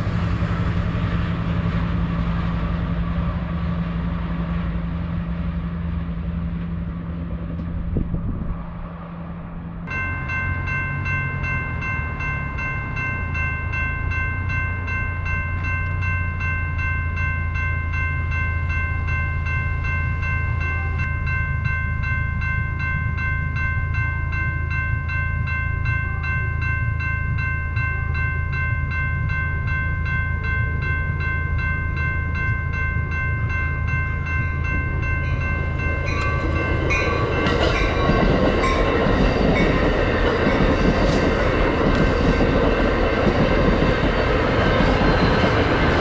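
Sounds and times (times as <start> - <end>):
railroad crossing bell ringing: 0.0 - 8.5, 9.8 - 46.0
train rumble and rail clatter: 0.0 - 46.0.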